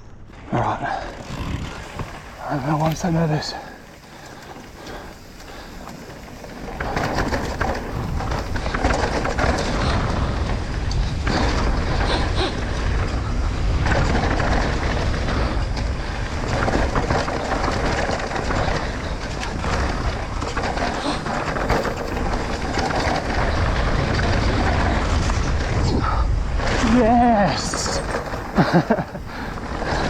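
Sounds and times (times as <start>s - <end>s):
mountain bike rumbling on dirt: 0.1s - 30.0s
bike knocks and rattles: 1.1s - 25.9s, 26.6s - 30.0s.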